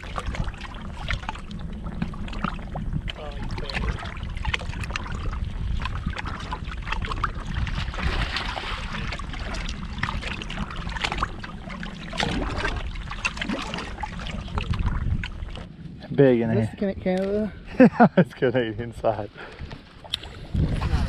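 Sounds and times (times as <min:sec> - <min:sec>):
waves slapping against boat hull: 0:00.0 - 0:16.0, 0:17.0 - 0:21.0
wind rumble on microphone: 0:00.0 - 0:21.0.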